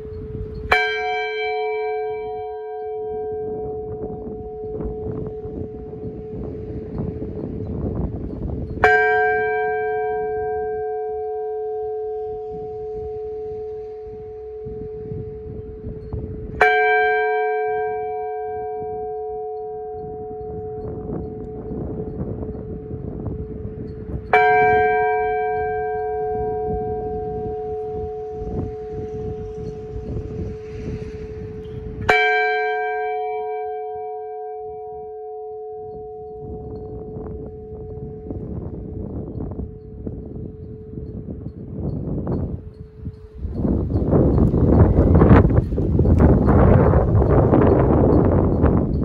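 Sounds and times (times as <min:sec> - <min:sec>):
church bell ringing: 0:00.0 - 0:49.0.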